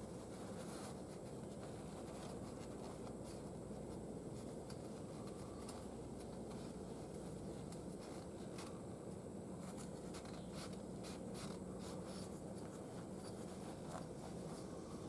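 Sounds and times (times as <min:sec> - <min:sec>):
hands rustling and clicking: 0:00.0 - 0:15.0
steady low hum: 0:00.0 - 0:15.0.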